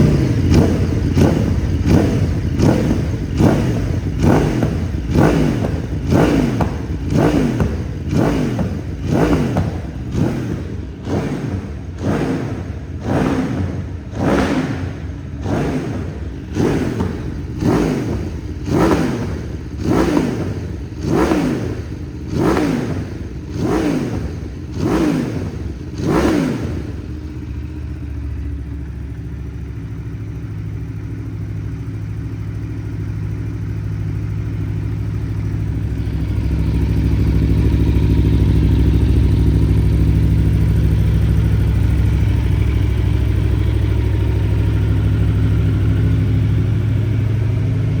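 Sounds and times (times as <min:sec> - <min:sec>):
motorcycle engine idling: 0:00.0 - 0:48.0
motorcycle engine revving: 0:00.0 - 0:48.0.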